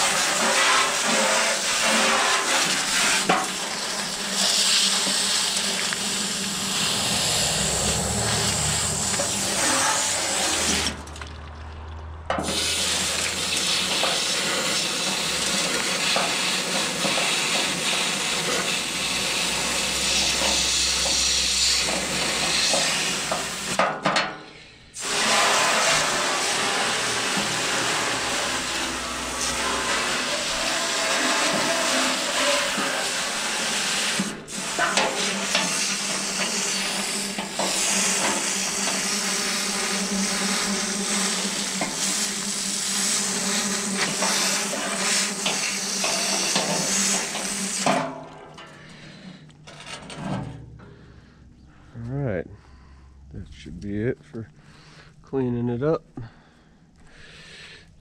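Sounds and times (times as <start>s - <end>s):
pressure washer spraying on metal: 0.0s - 11.4s, 12.3s - 24.1s, 25.0s - 48.3s.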